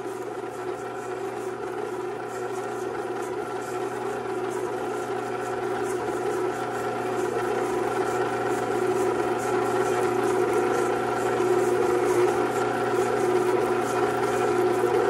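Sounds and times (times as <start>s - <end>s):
stand mixer motor humming: 0.0s - 15.0s.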